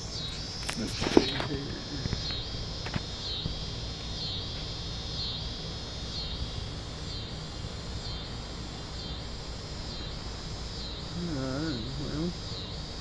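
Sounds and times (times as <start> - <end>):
low outdoor rumble: 0.0 - 13.0
pulsing insect chorus: 0.0 - 13.0.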